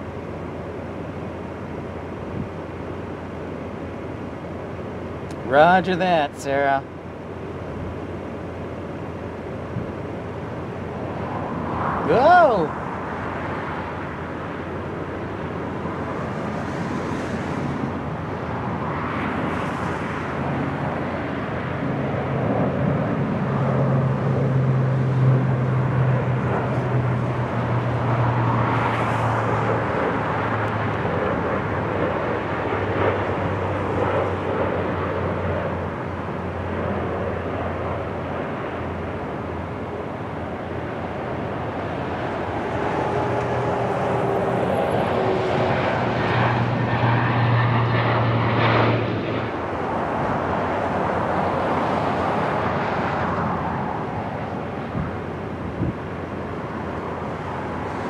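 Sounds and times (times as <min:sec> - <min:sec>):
turboprop aircraft taking off: 0:00.0 - 0:58.0.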